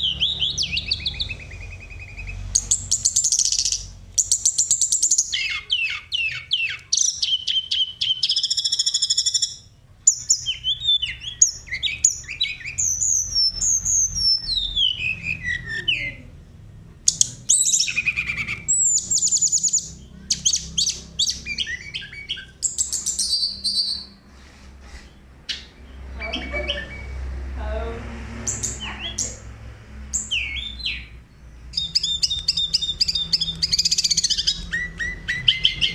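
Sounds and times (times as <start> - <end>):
bird singing chirps and trills: 0.0 - 16.4, 17.0 - 24.2, 25.4 - 35.9.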